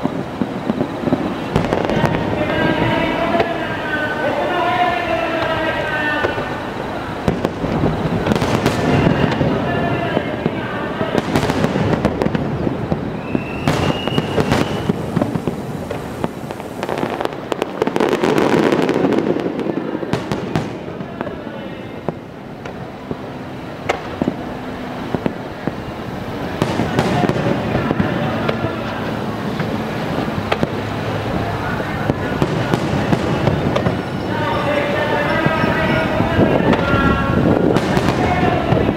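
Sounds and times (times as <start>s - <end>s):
fireworks bursting: 0.0s - 38.9s
fireworks crackling: 0.0s - 38.9s.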